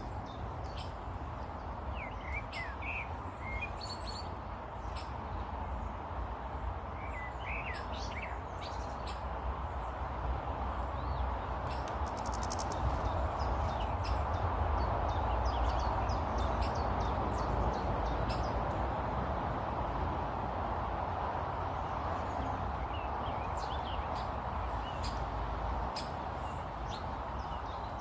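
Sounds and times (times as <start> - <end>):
small birds chirping: 0.0 - 5.9, 6.6 - 10.0, 10.8 - 18.6, 21.8 - 28.0.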